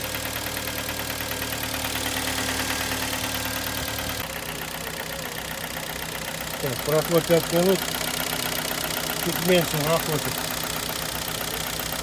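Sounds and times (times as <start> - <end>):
car engine idling: 0.0 - 12.0
rapid engine knock: 0.0 - 12.0.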